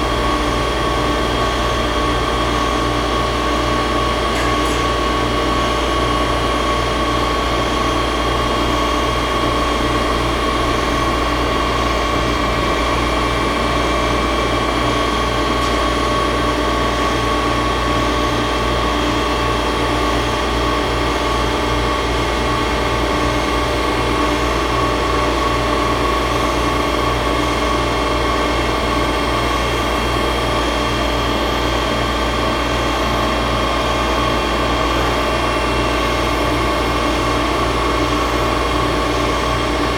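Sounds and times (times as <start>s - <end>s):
low machine hum: 0.0s - 39.9s
milling machine whine: 0.0s - 39.9s.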